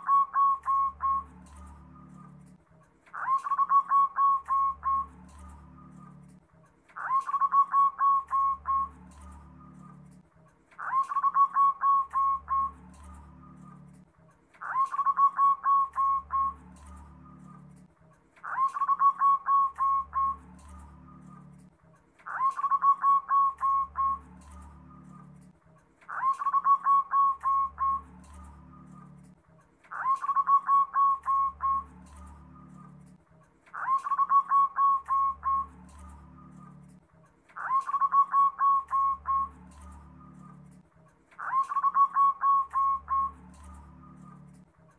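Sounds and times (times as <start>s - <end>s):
dove cooing: 0.0s - 6.4s, 7.0s - 10.2s, 10.8s - 14.0s, 14.6s - 25.5s, 26.1s - 33.1s, 33.7s - 37.0s, 37.6s - 40.8s, 41.4s - 44.6s.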